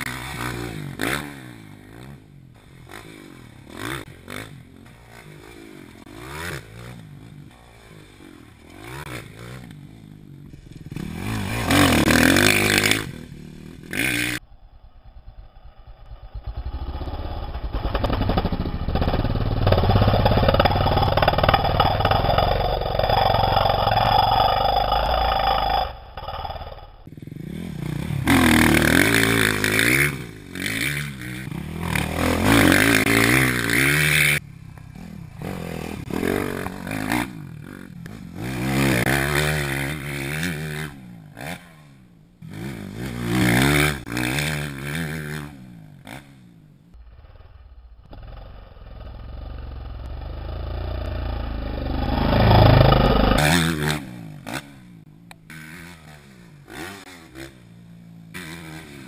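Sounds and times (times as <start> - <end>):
dirt bikes revving past: 0.0 - 14.5, 15.2 - 59.0.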